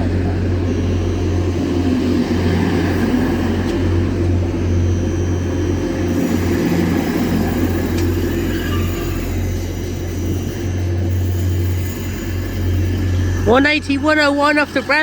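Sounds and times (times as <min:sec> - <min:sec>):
train diesel engines humming: 0:00.0 - 0:15.0.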